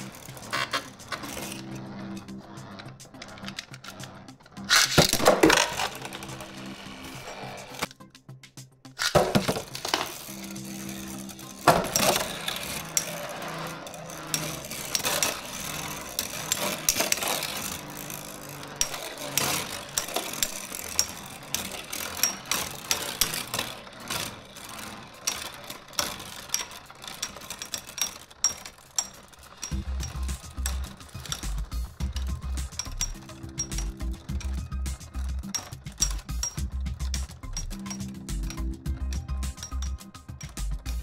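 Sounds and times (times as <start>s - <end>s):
spinning tops clashing metallically: 0.0s - 8.0s, 8.9s - 41.0s.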